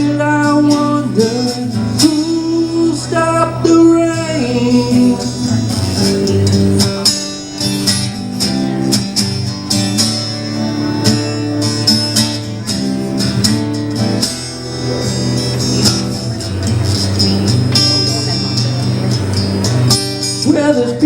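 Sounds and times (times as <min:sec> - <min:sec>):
acoustic guitar strumming: 0:00.0 - 0:21.0
backing beat: 0:00.0 - 0:21.0.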